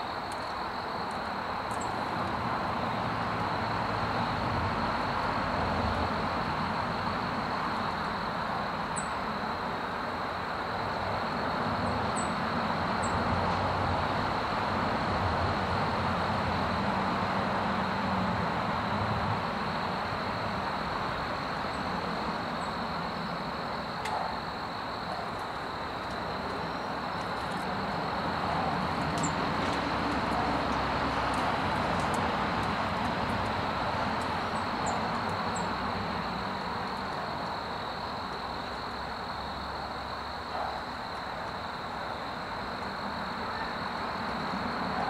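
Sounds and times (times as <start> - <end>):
distant road traffic: 0.0 - 45.0.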